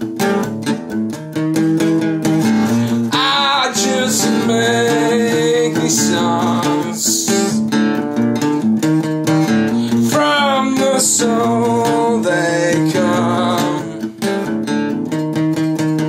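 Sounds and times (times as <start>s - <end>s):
song with strummed acoustic guitar: 0.0s - 16.0s.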